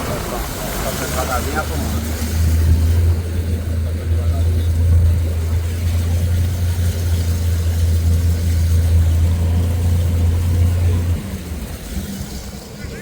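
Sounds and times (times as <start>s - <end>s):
jet ski engine running: 0.0s - 13.0s.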